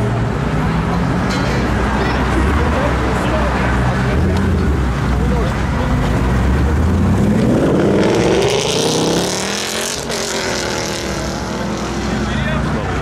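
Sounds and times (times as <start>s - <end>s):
car engine accelerating hard: 2.0s - 13.0s.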